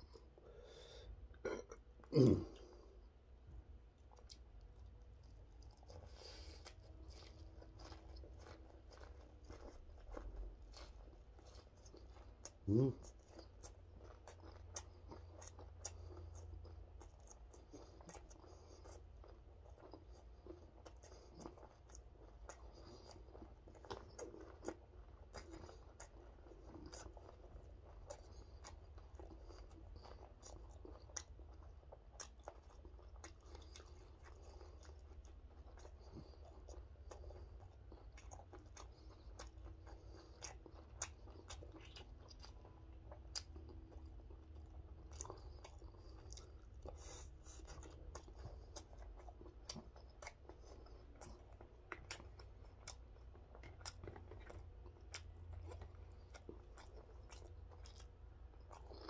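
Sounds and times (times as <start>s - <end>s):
faint low hum: 0.0s - 59.0s
person chewing food: 0.0s - 59.0s.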